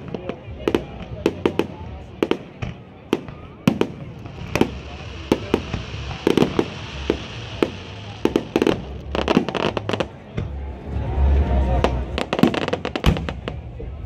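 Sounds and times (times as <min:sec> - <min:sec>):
fireworks bursting with sharp bangs: 0:00.0 - 0:10.8, 0:11.7 - 0:13.9.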